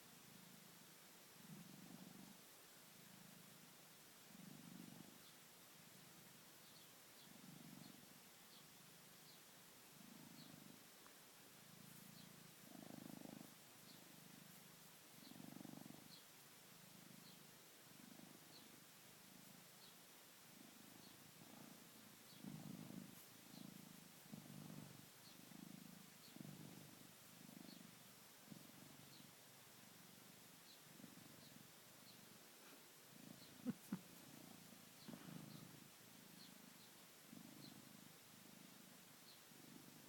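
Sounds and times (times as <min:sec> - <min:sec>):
cat purring: 0:00.0 - 0:40.0.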